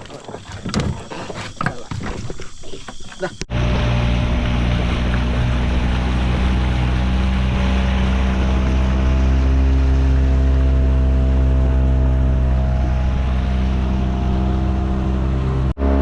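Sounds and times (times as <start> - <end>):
rushing water: 0.0 - 16.0
wind: 0.0 - 16.0
boat motor running: 2.9 - 16.0.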